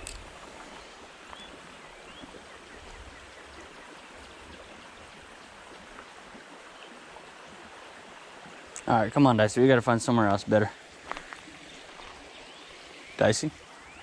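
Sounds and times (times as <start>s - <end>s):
creek water flowing: 0.0s - 14.0s.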